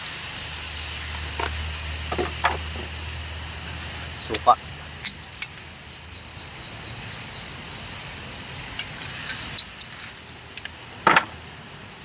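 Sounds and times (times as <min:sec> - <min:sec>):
hot wok sizzling: 0:00.0 - 0:12.0.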